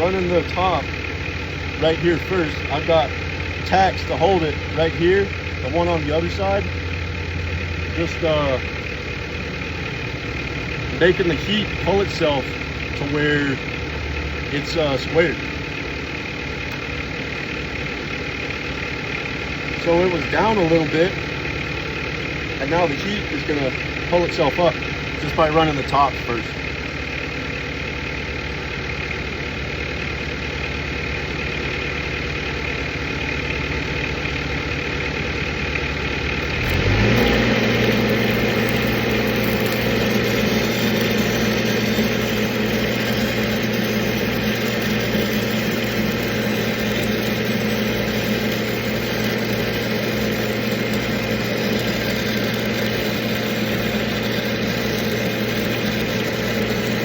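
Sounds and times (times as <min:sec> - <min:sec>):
welding machine engine running: 0:00.0 - 0:57.0.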